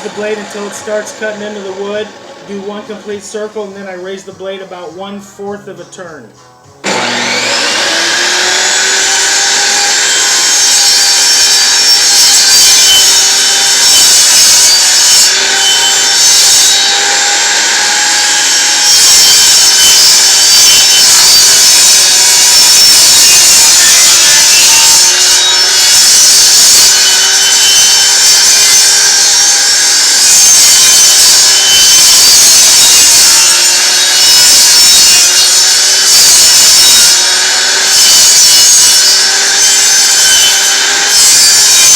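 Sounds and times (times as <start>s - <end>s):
table saw cutting plywood: 0.0s - 4.1s, 6.8s - 41.9s.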